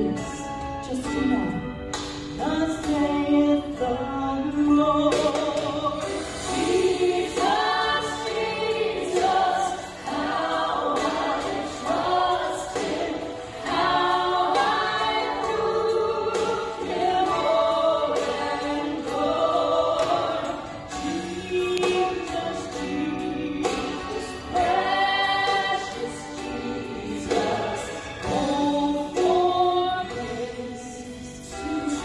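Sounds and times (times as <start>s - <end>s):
women singing gospel song: 2.3s - 32.0s.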